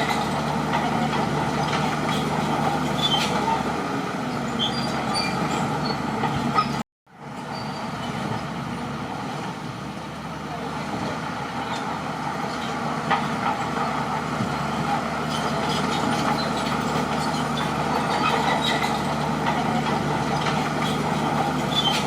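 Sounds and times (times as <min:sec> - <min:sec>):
track squeaks: 0:00.0 - 0:09.6, 0:11.0 - 0:22.0
bulldozer diesel engine running: 0:00.0 - 0:22.0.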